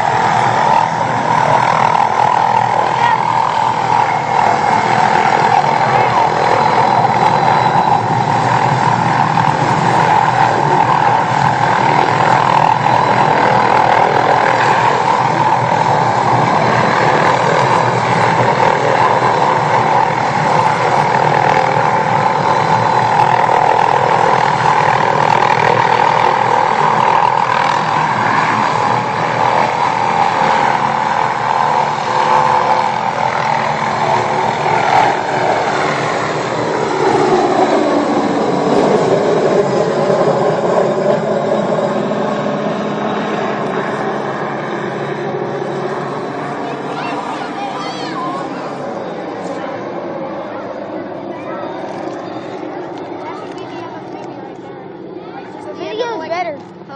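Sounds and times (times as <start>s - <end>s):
helicopter rotor and turbine whine: 0.0s - 56.9s.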